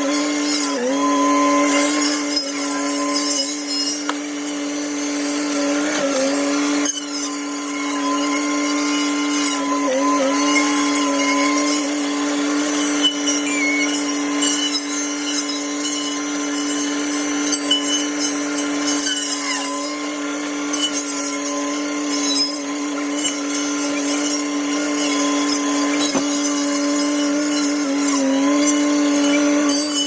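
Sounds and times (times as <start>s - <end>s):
hedgecutter circular saw: 0.0s - 30.0s.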